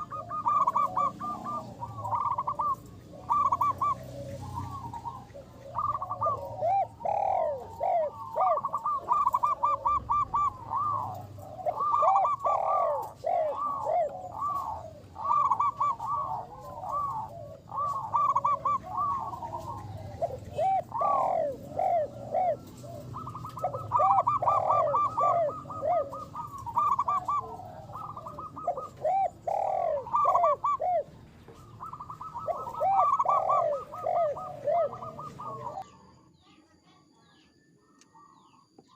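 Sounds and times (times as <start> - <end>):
doves cooing: 0.0 - 36.6, 37.2 - 38.9.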